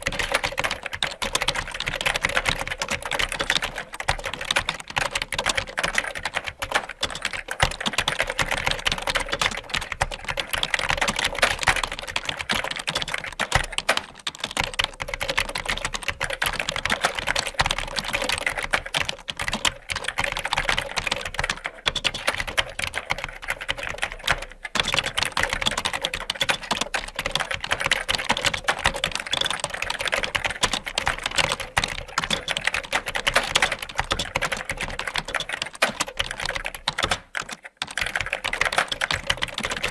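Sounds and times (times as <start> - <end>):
rapid keyboard typing: 0.0 - 39.9.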